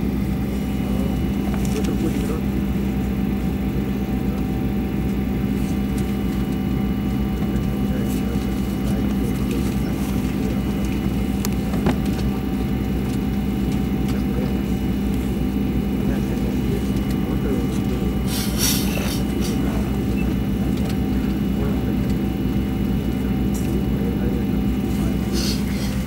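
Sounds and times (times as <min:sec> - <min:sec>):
vehicle cabin drone: 0:00.0 - 0:26.0.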